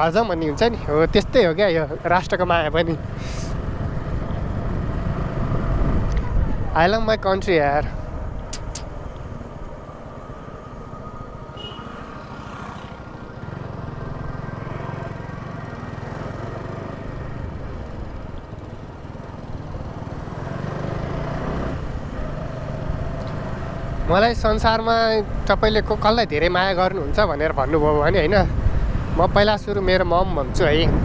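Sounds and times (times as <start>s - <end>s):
motorcycle engine rumble: 0.0s - 31.0s
wind and road noise: 0.0s - 31.0s.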